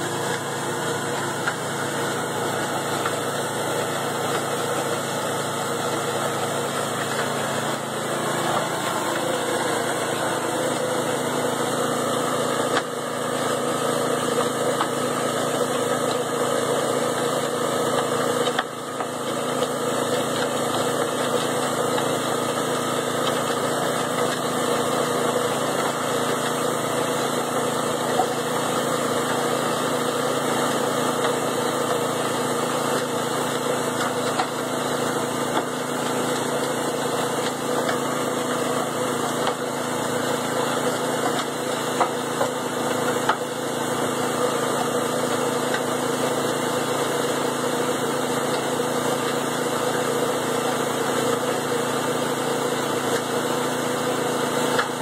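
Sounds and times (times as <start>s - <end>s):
cement mixer engine running: 0.0s - 55.0s.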